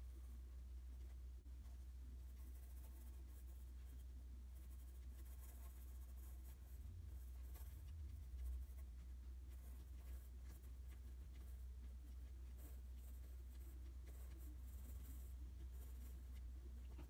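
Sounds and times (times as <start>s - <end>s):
steady low hum: 0.0s - 17.0s
pencil scratching on paper: 1.1s - 17.0s.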